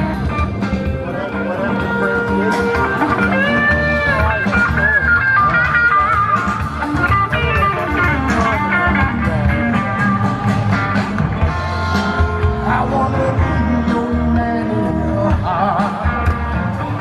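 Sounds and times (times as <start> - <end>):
lead guitar solo with bent notes: 0.0 - 15.2
blues band playing: 0.0 - 17.0.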